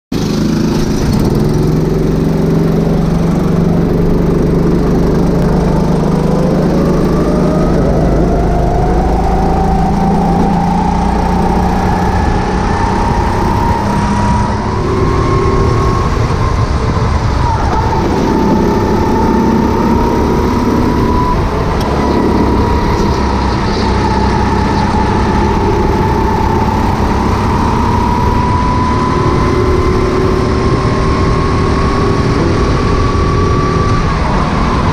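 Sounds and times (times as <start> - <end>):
go-kart engine accelerating: 0.1 - 34.9.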